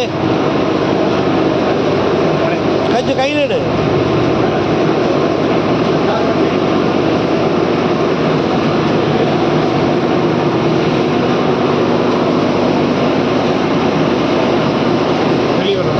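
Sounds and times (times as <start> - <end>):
plastic washing machine running: 0.0 - 15.9.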